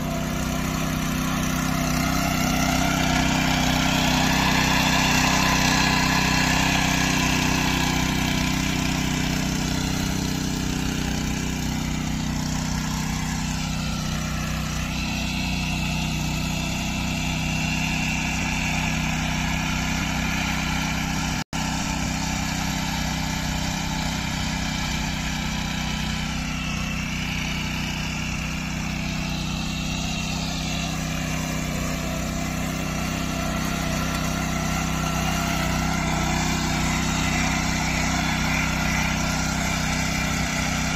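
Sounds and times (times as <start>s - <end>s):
power tiller engine running: 0.0s - 40.9s.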